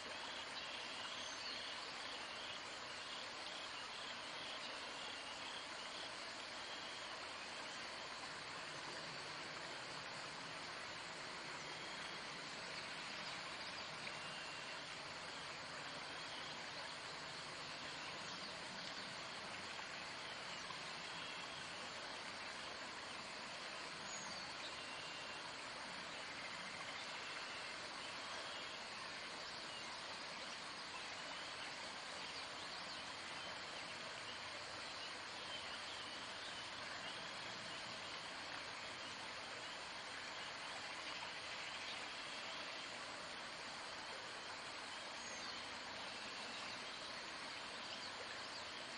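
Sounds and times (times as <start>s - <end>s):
outdoor ambient hiss: 0.0s - 48.9s.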